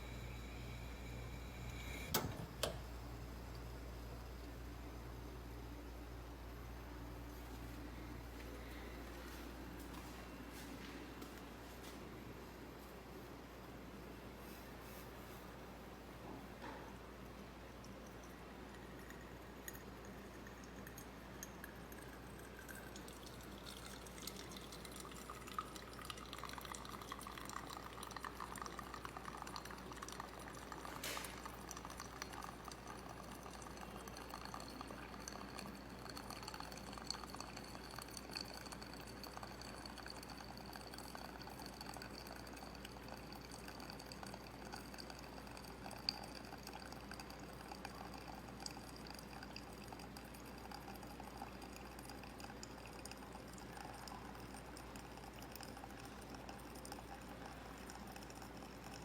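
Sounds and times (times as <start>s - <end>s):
water pouring into glass pitcher: 0.0s - 6.4s, 17.6s - 59.0s.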